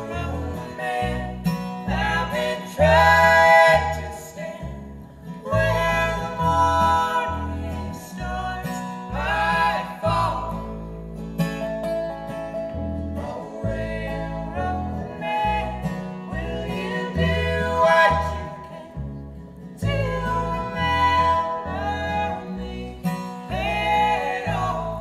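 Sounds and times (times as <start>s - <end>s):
woman singing: 0.0s - 4.8s, 5.4s - 10.5s, 13.2s - 19.1s, 19.7s - 25.0s
resonator guitar: 0.0s - 25.0s
strummed acoustic guitar: 0.0s - 25.0s
upright double bass: 0.0s - 25.0s.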